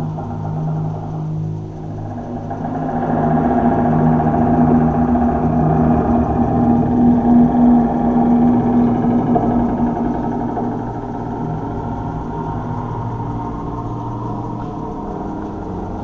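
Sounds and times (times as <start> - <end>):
low electronic drone: 0.0 - 16.0.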